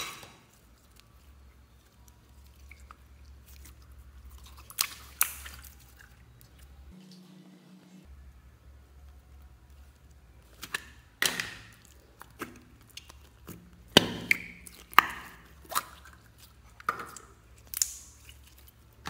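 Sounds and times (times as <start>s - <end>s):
slime popping and squelching: 0.0s - 6.8s, 9.7s - 19.0s.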